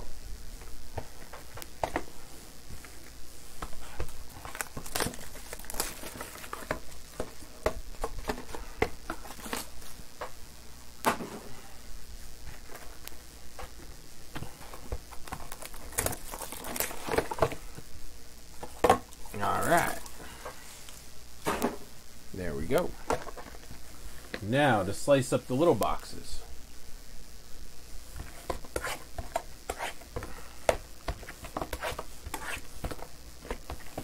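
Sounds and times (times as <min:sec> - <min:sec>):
crinkling wrap and cardboard: 0:00.0 - 0:10.6, 0:11.7 - 0:24.7, 0:27.8 - 0:34.0.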